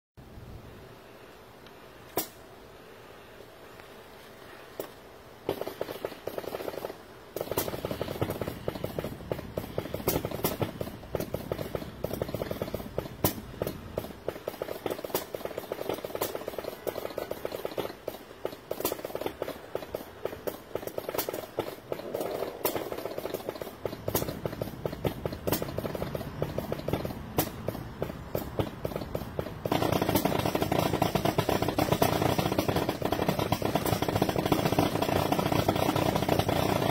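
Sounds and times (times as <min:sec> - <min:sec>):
motorized prop rattling and clicking: 0:04.8 - 0:36.9.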